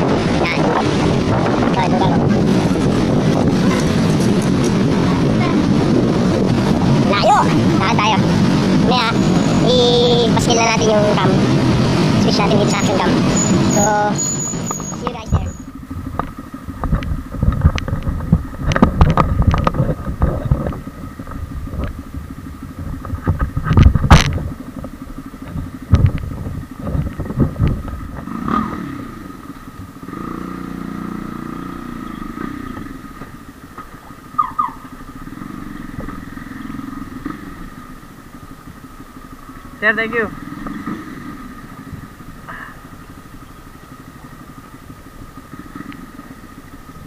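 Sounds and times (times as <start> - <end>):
motorcycle engine idling: 1.9 - 47.0.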